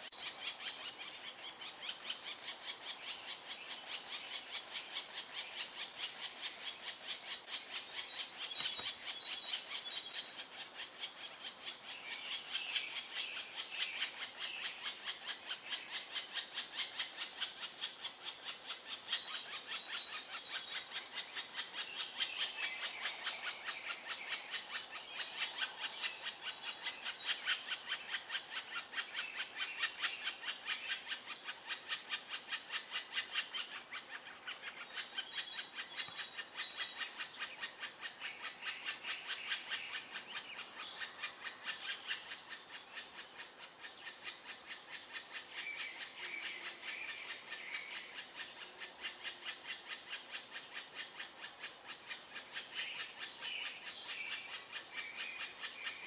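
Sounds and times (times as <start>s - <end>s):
woodpecker nestlings rasping calls: 0.0s - 56.0s.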